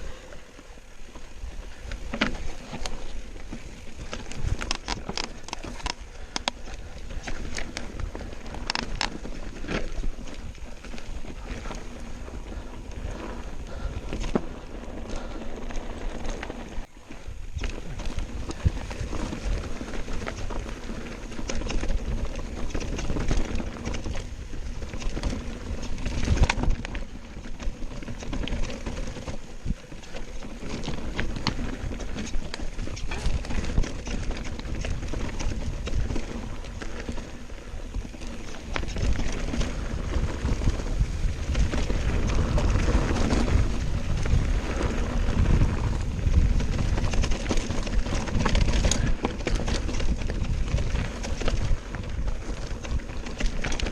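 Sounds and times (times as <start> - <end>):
bike rattling: 0.0 - 53.9
tyres crunching over stones: 1.1 - 53.9.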